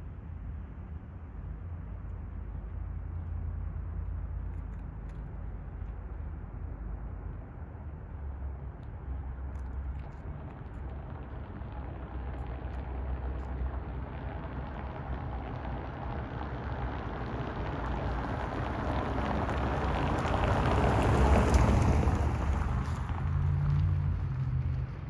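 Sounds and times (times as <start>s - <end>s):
car tyres on cobblestones: 0.0s - 25.0s.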